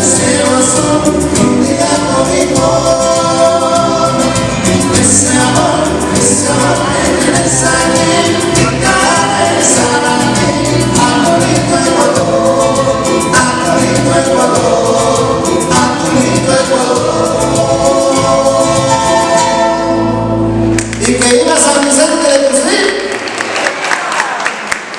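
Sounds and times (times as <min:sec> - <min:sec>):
voices singing together: 0:00.0 - 0:20.1
instrumental backing with beat: 0:00.0 - 0:21.0.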